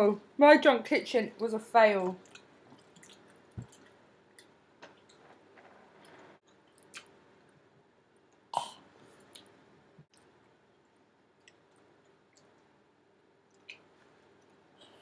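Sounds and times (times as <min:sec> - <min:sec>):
people chewing food: 0:02.2 - 0:07.6, 0:08.3 - 0:15.0.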